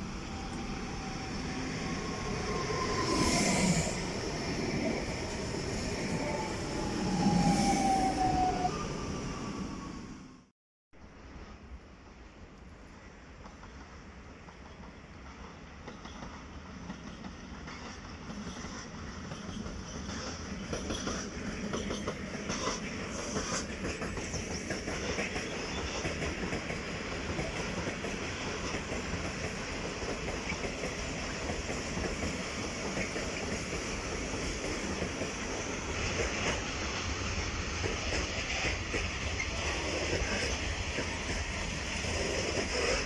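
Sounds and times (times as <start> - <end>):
freight train rumbling past: 0.0 - 10.5, 13.2 - 43.0.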